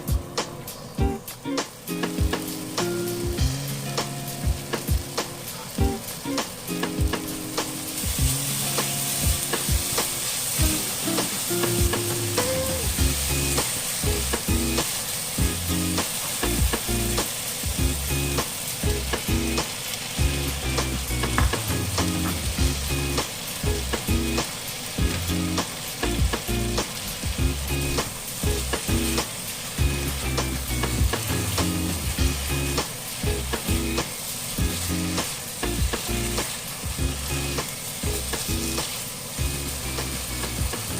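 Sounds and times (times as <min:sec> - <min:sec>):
meat sizzling in a pan: 0:00.0 - 0:40.9.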